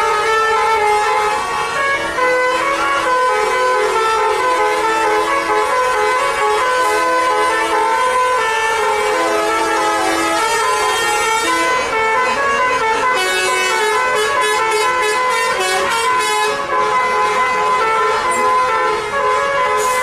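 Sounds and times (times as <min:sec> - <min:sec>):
multi-tone bus horn melody: 0:00.0 - 0:20.0.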